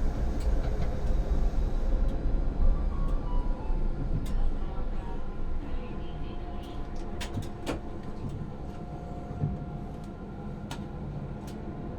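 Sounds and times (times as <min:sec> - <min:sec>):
tram rumbling: 0:00.0 - 0:11.9.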